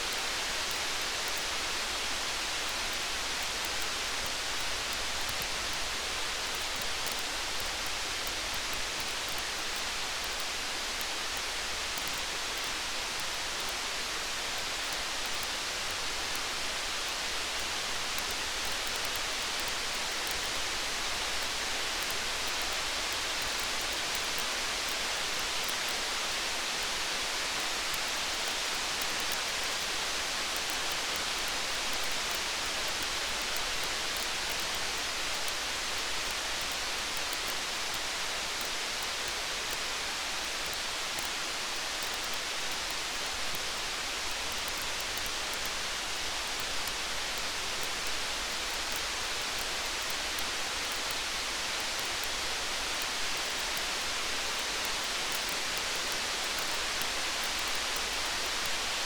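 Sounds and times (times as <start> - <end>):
faint campfire crackles: 0.0 - 59.0
steady rain: 0.0 - 59.0.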